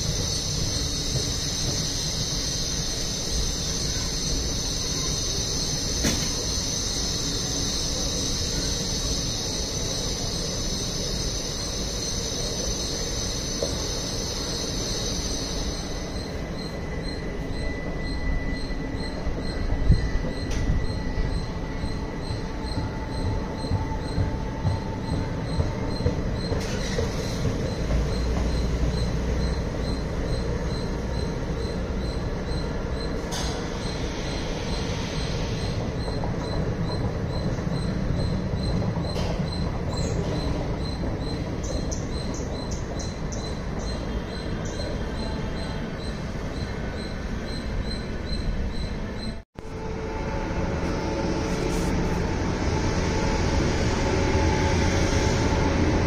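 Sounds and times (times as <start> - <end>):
train knocks: 0.0 - 56.0
train wheels rumbling on rails: 0.0 - 56.0.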